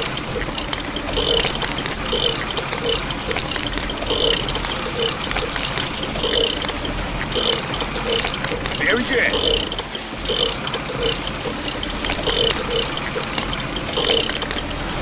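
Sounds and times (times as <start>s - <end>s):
soft repeating sound: 0.0s - 15.0s
wet concrete pouring and splatting: 0.0s - 15.0s.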